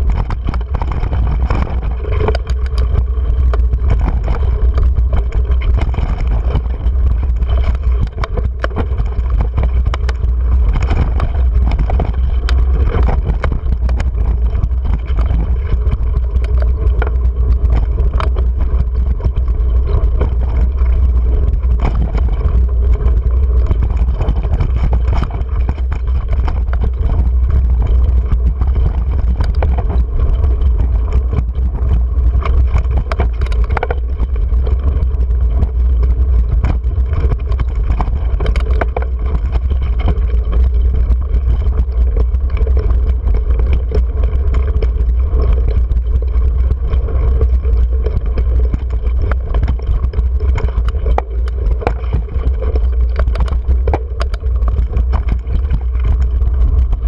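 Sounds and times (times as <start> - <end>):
bike knocks and rattles: 0.0 - 57.0
bike low rumble: 0.0 - 57.0.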